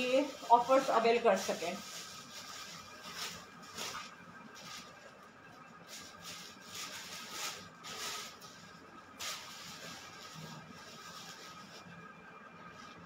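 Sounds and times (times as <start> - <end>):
plastic packets rustling: 0.0 - 5.2, 5.8 - 11.8.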